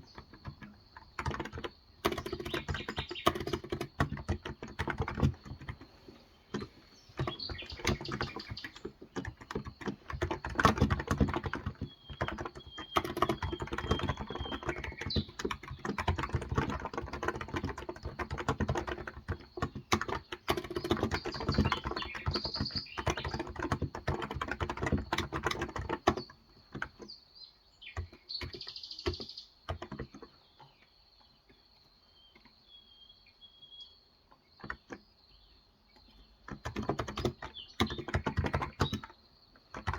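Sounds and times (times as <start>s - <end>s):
keyboard typing: 0.0s - 27.1s, 27.9s - 30.4s, 36.0s - 39.9s
faint birds chirping: 0.0s - 39.9s.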